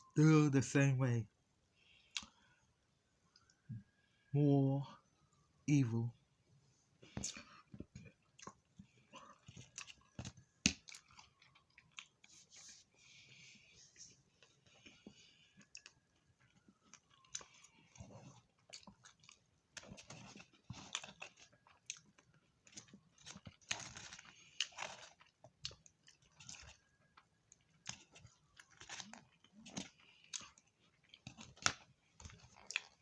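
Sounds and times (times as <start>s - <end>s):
person chewing food: 1.8s - 4.3s, 6.9s - 33.0s.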